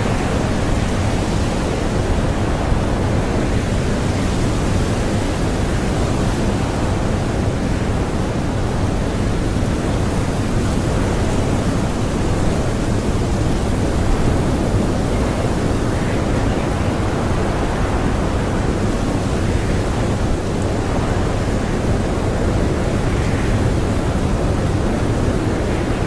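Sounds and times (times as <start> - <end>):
blizzard wind blowing hard: 0.0 - 26.0.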